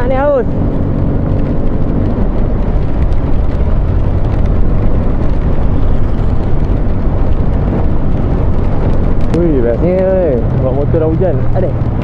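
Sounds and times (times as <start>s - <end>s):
motorcycle running: 0.0s - 12.0s
wind rumbling on microphone: 0.0s - 12.0s.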